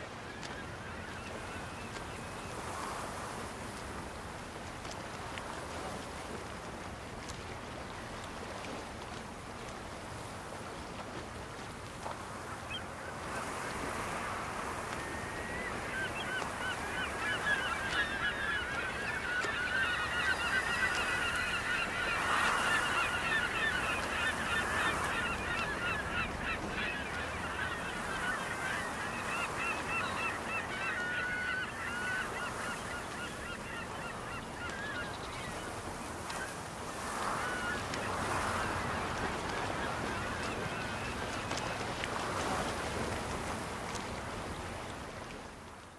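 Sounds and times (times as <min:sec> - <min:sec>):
seabirds calling: 0:00.0 - 0:03.6, 0:11.6 - 0:45.5
surf washing: 0:00.0 - 0:45.9.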